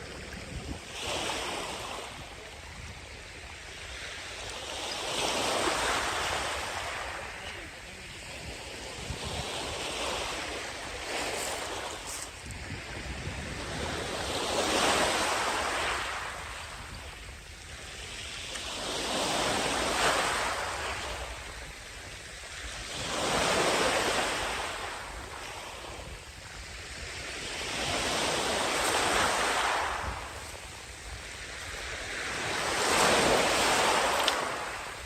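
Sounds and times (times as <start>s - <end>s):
sea waves breaking on beach: 0.0s - 35.0s.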